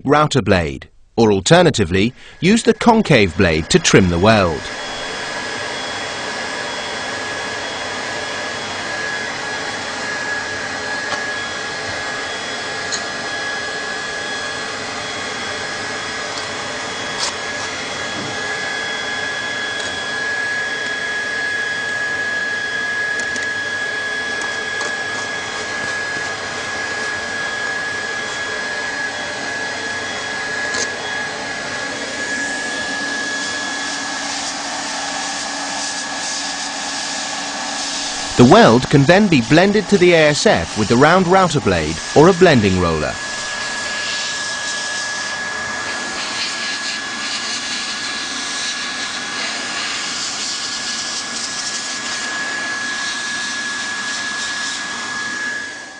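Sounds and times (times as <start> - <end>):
hot-air blower whining: 2.1 - 55.9.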